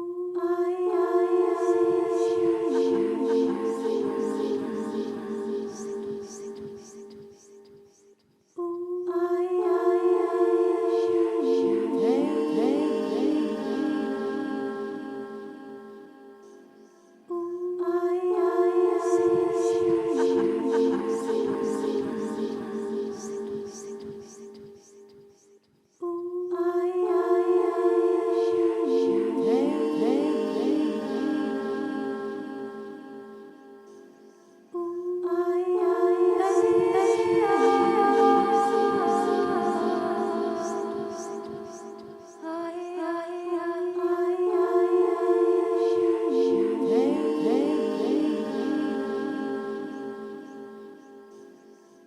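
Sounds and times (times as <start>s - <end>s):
a cappella voices holding tones: 0.0s - 52.0s.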